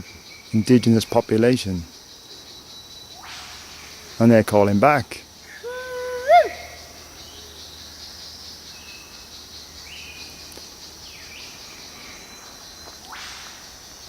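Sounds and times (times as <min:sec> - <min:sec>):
insects trilling in chorus: 0:00.0 - 0:14.0.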